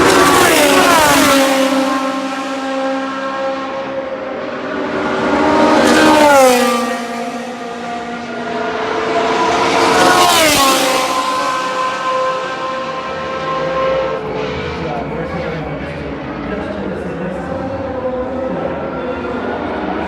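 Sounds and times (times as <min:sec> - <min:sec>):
distant engines on circuit: 0:00.0 - 0:20.0
race cars passing by: 0:00.0 - 0:20.0.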